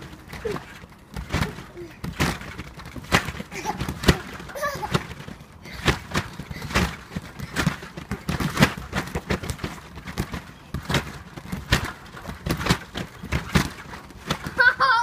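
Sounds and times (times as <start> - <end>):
bare feet thudding on trampoline: 0.0 - 15.0.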